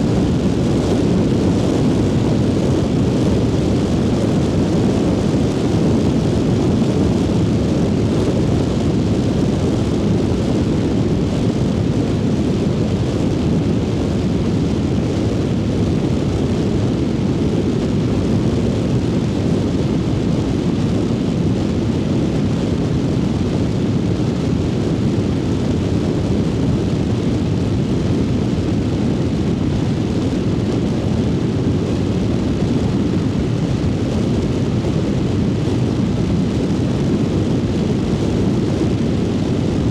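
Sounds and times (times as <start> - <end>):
deep wind rush: 0.0 - 39.9.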